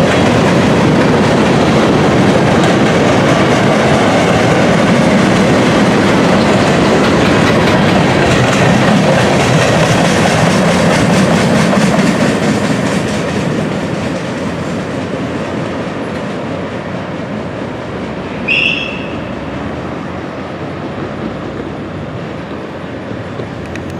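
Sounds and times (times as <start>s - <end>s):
train wheels clickety-clack: 0.0s - 23.9s.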